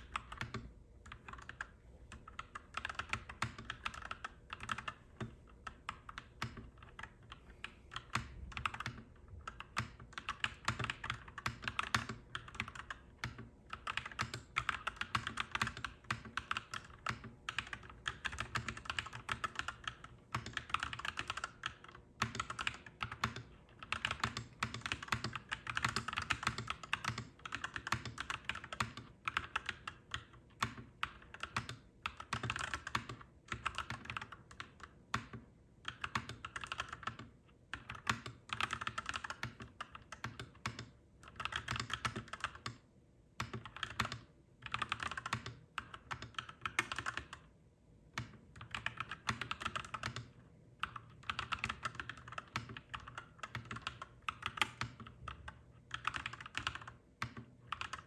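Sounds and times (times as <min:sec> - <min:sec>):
mechanical keyboard typing: 0:00.0 - 0:42.8, 0:43.4 - 0:47.5, 0:48.1 - 0:58.0.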